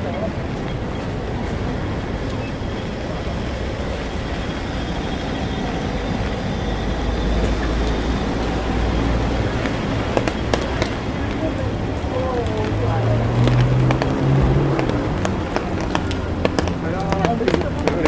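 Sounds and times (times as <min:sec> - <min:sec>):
road noise: 0:00.0 - 0:18.0
vehicle engine rumble: 0:00.0 - 0:18.0.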